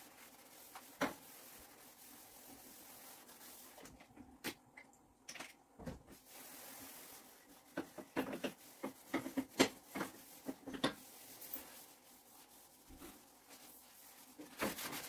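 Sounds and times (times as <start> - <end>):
sponge scrubbing stove top: 0.0 - 4.2, 6.1 - 15.0.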